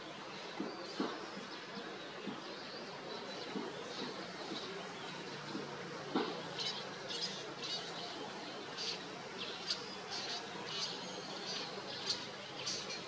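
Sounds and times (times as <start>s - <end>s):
small birds chirping: 0.6s - 13.0s.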